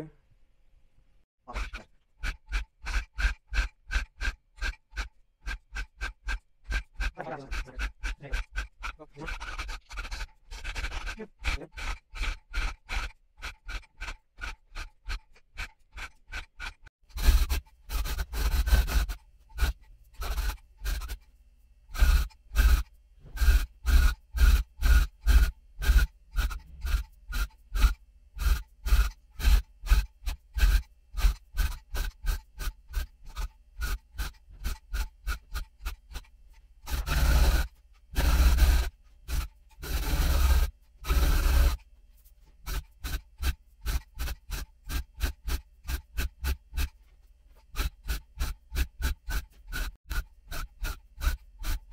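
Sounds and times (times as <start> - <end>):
electric tufting gun punching yarn: 1.7 - 15.2, 16.0 - 21.2, 21.9 - 41.8, 42.6 - 47.0, 47.6 - 51.9.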